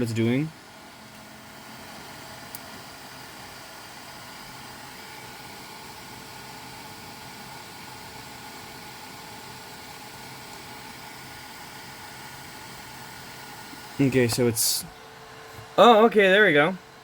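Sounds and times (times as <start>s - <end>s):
cooling fans whirring: 0.0s - 17.0s
faint steady whine: 0.0s - 17.0s.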